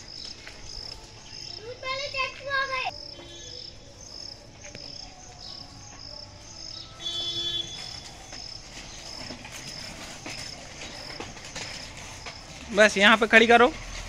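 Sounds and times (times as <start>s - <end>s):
insect chirping: 0.0s - 14.0s
louder steady insect call: 0.0s - 14.0s.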